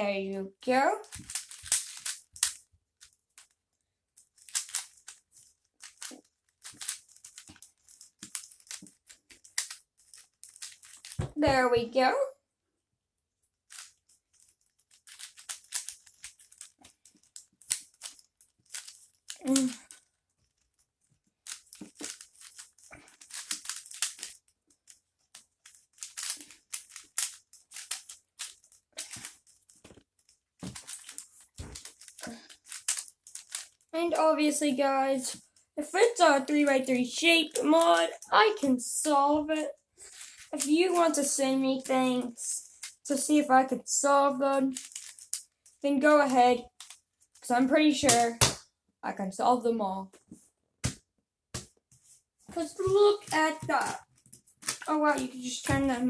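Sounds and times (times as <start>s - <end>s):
plastic puzzle clicking and scraping: 0.7s - 11.6s, 13.6s - 48.6s, 51.6s - 56.0s.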